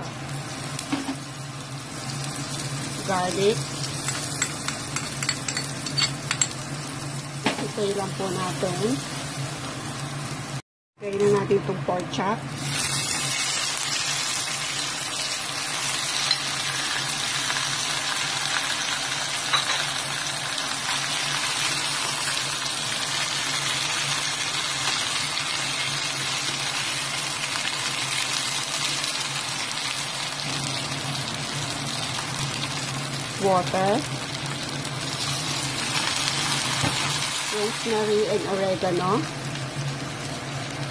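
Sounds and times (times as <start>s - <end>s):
meat sizzling in a pan: 0.2s - 10.6s, 12.5s - 40.9s.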